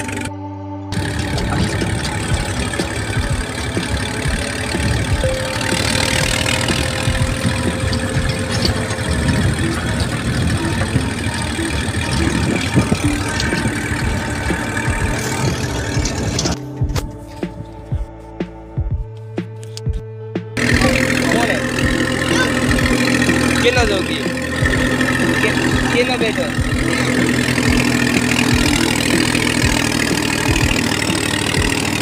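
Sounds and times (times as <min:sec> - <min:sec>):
tractor diesel engine running: 0:00.0 - 0:32.0
trolley knocking and rattling: 0:01.0 - 0:17.0, 0:20.6 - 0:32.0.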